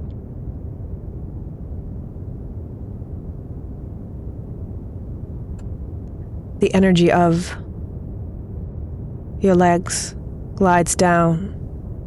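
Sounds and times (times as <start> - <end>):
brown noise hiss: 0.0 - 12.0.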